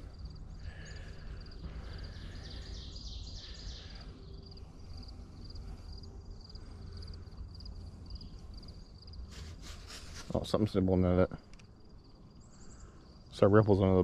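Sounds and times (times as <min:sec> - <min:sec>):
low steady rumble: 0:00.0 - 0:13.9
insect chirping: 0:00.0 - 0:14.0.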